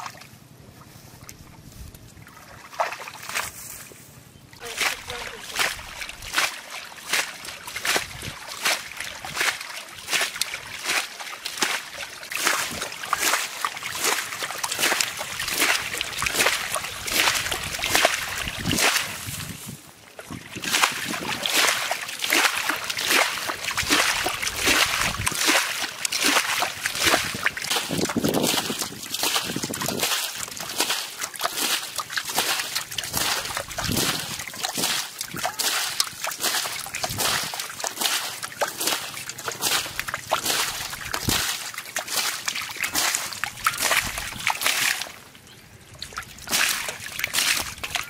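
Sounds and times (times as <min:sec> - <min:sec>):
water splashing through basket: 0:02.2 - 0:03.6, 0:04.6 - 0:45.2, 0:45.9 - 0:48.0.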